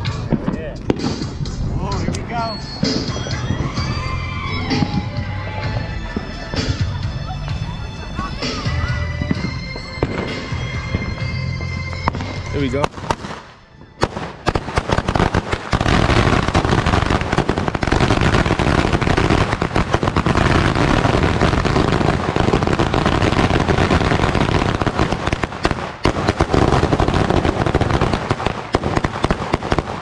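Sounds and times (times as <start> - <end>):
firecrackers crackling: 0.0 - 30.0.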